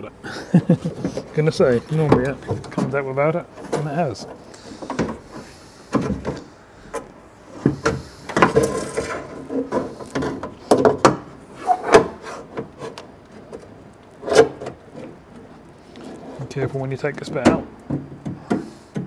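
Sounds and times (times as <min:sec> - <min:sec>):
rubber seal rubbing and scraping: 0:00.8 - 0:16.5.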